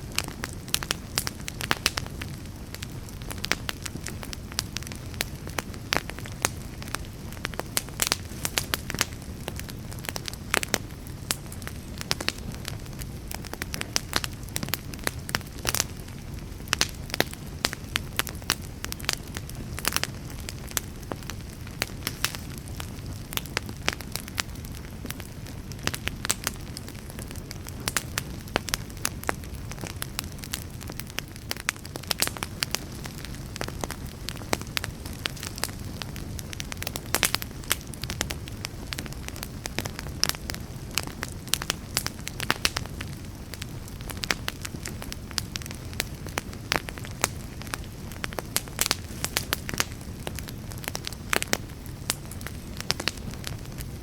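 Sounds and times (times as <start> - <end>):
fire crackles and pops: 0.0 - 54.0
wood fire rushing: 0.1 - 54.0.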